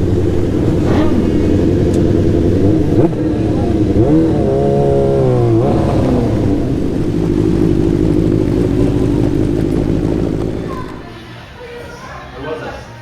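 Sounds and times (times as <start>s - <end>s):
race car engine revving: 0.0s - 11.1s.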